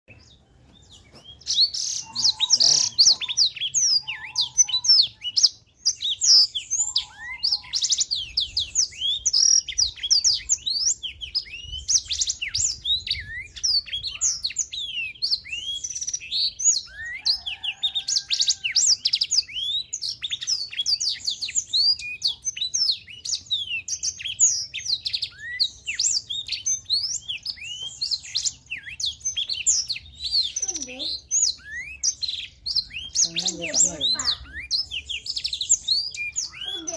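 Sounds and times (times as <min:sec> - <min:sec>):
canary singing: 0:00.1 - 0:36.9.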